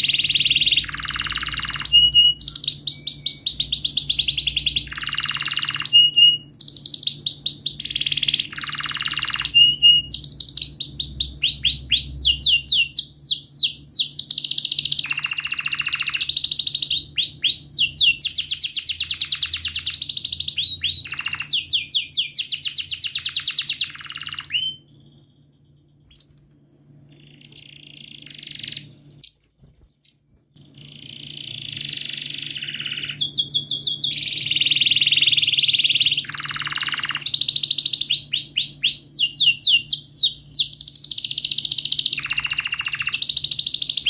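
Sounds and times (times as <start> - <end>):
canary singing trills: 0.0 - 44.0.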